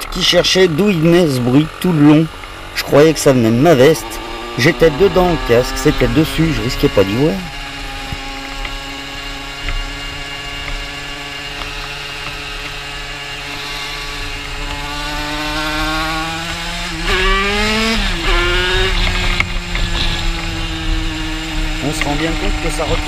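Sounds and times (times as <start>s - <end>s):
two-stroke motorcycle engine: 0.0s - 23.0s.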